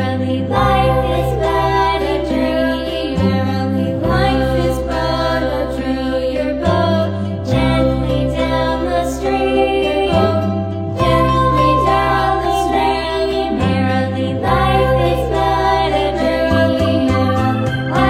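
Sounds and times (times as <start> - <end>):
choir-like vocal music: 0.0 - 18.0
steady bass: 0.0 - 18.0.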